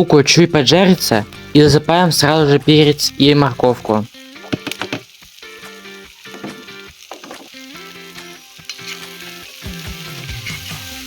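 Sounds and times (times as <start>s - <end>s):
background music: 0.0s - 11.0s
onion sizzling in hot fat: 0.6s - 11.0s.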